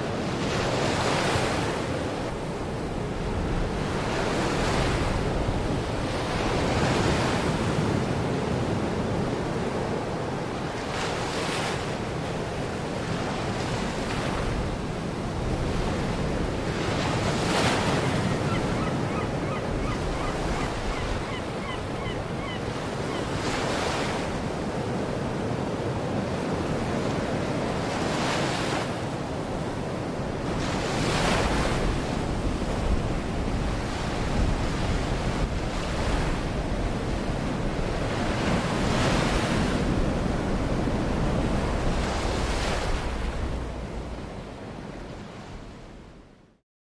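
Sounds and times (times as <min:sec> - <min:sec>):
waves breaking on shore: 0:00.0 - 0:46.0.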